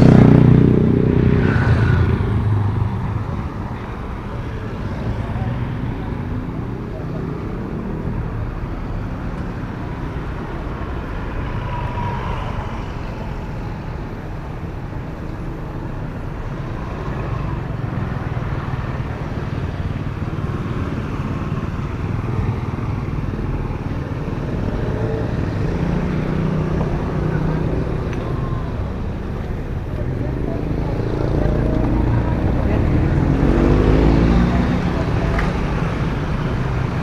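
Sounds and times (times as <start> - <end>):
motorcycles and cars passing: 0.0 - 37.0.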